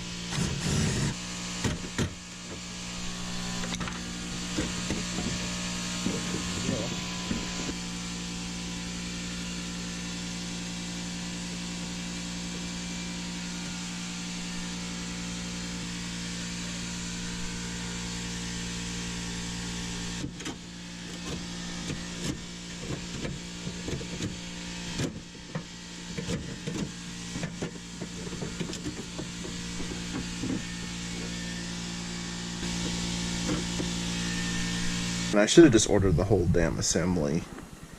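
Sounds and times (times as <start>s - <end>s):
window motor whirring: 0.0s - 35.7s.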